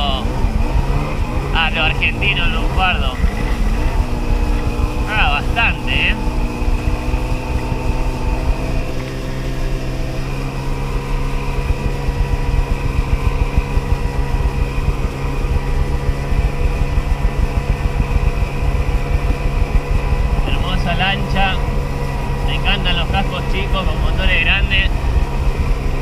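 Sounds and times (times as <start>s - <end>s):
watercraft engine running: 0.0s - 26.0s.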